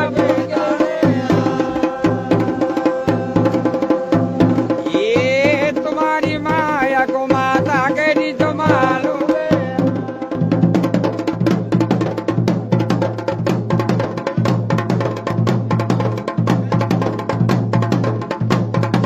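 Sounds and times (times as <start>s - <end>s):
drums playing fast rhythm: 0.0s - 19.0s.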